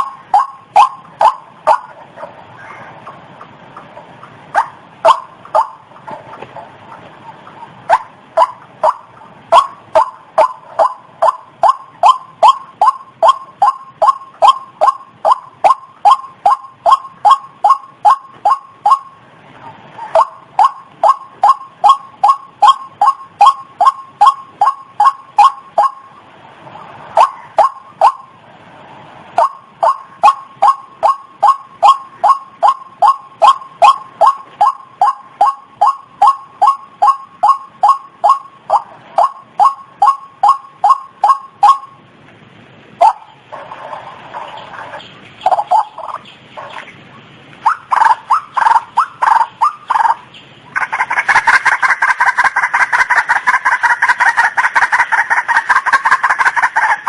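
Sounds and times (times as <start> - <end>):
waterhen calling: 0.0 - 28.4, 29.3 - 42.2, 42.9 - 57.0.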